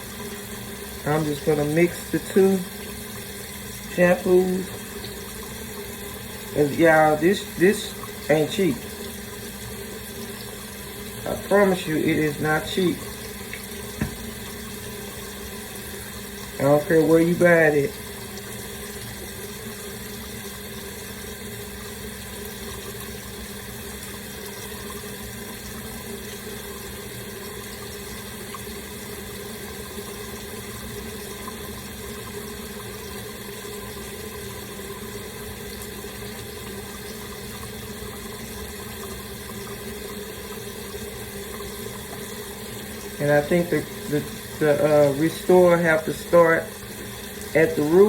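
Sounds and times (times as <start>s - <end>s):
tap water running: 0.0s - 48.0s.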